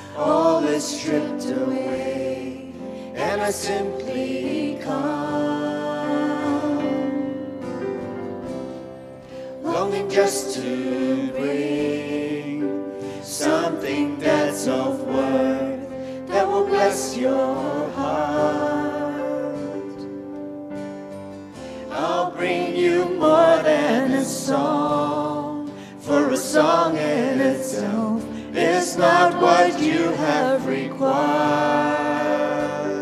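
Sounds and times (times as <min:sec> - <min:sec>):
voices singing slow melody: 0:00.0 - 0:20.4, 0:21.3 - 0:33.0
sustained instrumental accompaniment: 0:00.0 - 0:33.0.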